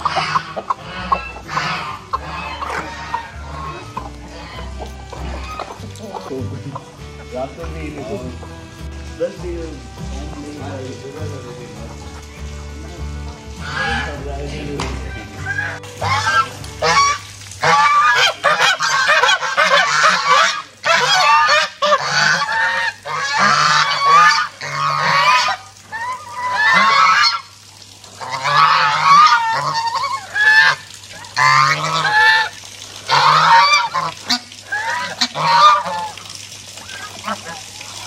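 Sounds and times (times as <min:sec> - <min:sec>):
geese honking: 0:00.0 - 0:38.0.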